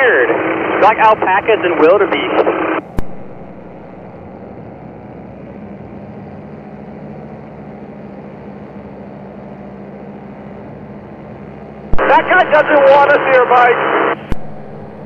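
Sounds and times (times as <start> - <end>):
paramotor engine humming: 0.0 - 15.0.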